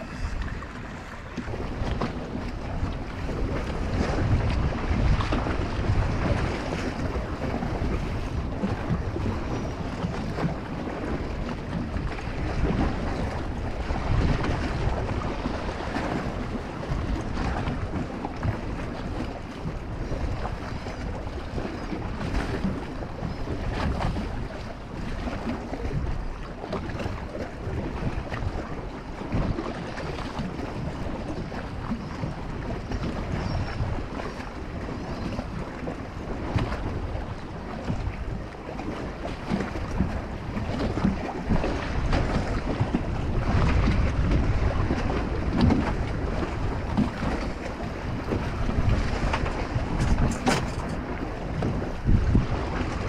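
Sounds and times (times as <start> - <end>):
water washing against hull: 0.0 - 53.0
wind buffeting microphone: 0.0 - 53.0.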